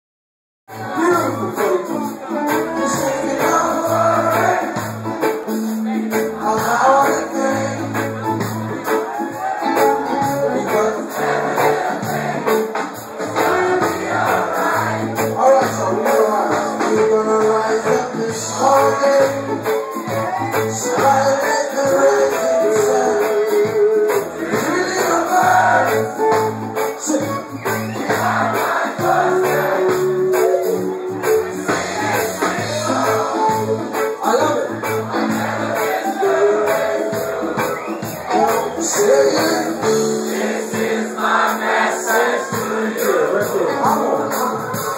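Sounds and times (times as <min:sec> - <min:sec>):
reggae band playing live: 0:00.7 - 0:44.9.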